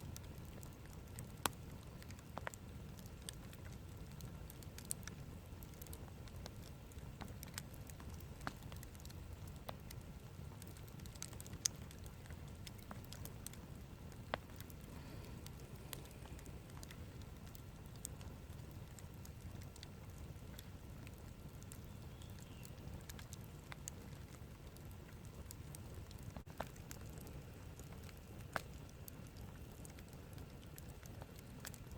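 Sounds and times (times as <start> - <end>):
campfire crackling and popping: 0.0 - 31.9
low steady rumble: 0.0 - 31.9.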